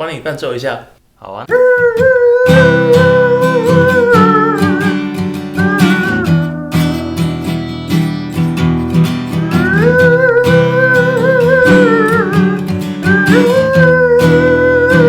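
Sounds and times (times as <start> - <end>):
voice imitating a bowed string melody: 1.5 - 8.0, 9.1 - 15.0
acoustic guitar strumming chords: 2.0 - 15.0.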